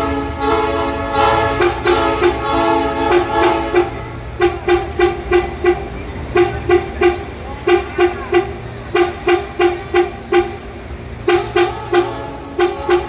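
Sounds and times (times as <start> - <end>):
idling train machinery hum: 0.0 - 13.0
train horn blasts: 0.0 - 13.0.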